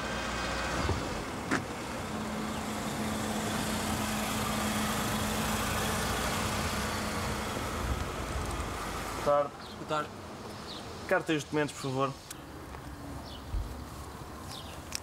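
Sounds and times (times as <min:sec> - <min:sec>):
car engine humming: 0:00.0 - 0:15.0
street noise hiss: 0:00.0 - 0:15.0.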